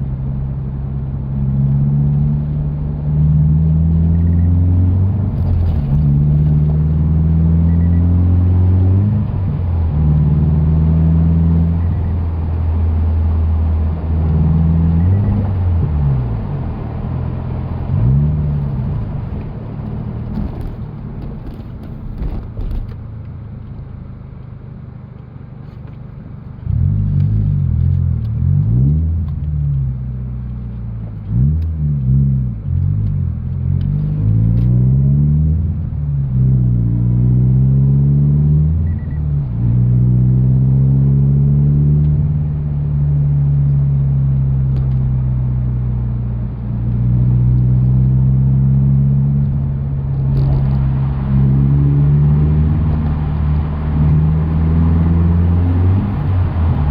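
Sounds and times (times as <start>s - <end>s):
car engine revving: 0.0s - 22.9s, 26.6s - 56.9s.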